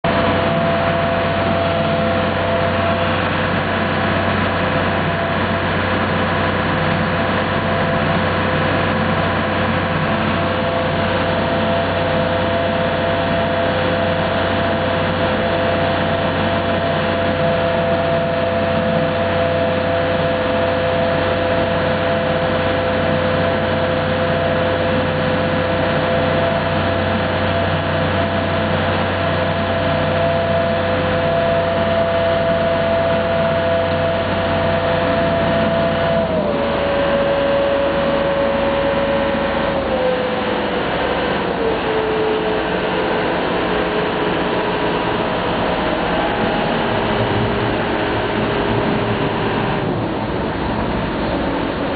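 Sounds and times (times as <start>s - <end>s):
ferry engine running: 0.0s - 51.9s.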